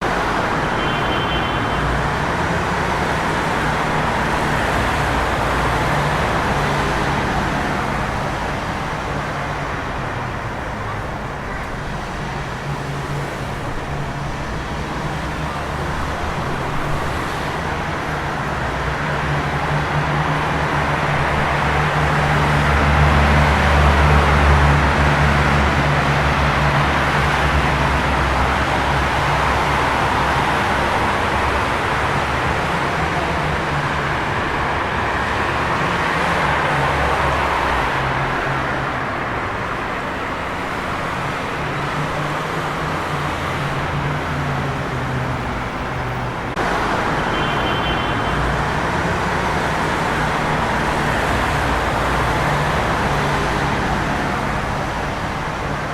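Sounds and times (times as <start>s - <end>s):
traffic engines idling: 0.0s - 55.9s.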